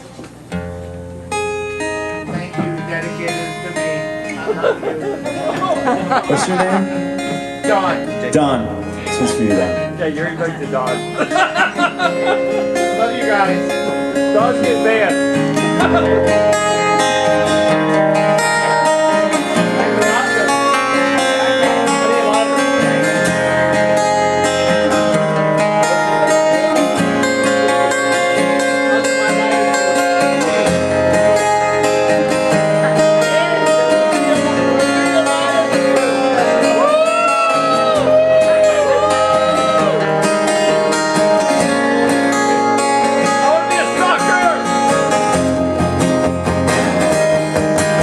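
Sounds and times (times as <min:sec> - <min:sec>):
strummed acoustic guitar: 0:00.0 - 0:48.0.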